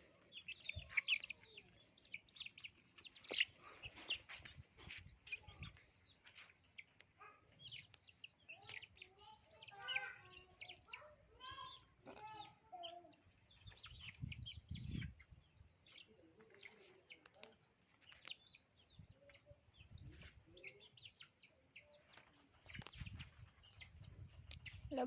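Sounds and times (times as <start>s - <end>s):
chickens chirping: 0.0s - 25.0s.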